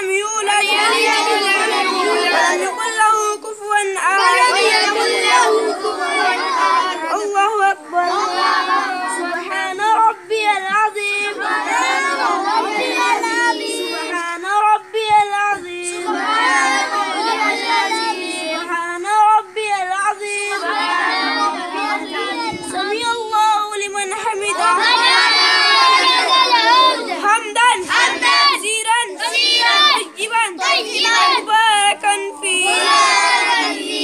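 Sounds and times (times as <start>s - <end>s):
boys chanting prayer together: 0.0s - 34.0s.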